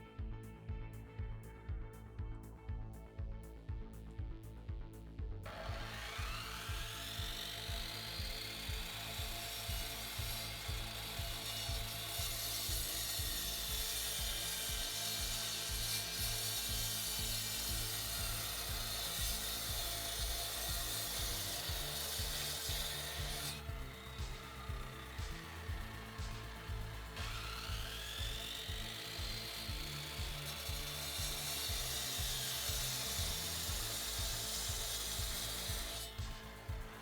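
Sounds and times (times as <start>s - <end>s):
power tool grinding masonry: 5.5s - 37.0s.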